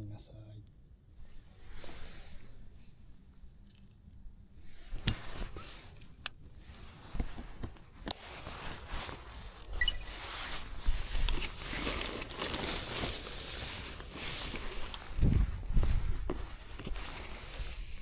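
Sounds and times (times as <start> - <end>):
rustling of handled things: 1.2 - 18.0.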